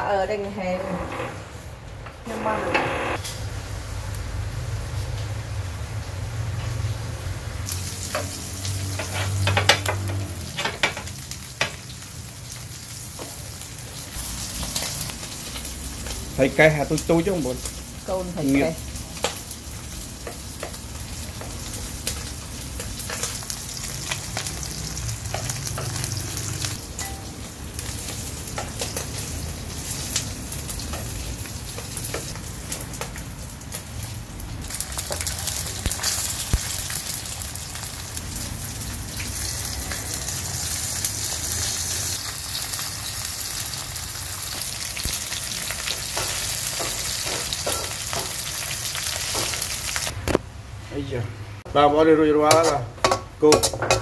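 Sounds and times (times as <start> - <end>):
fish sizzling in oil: 3.2 - 50.2.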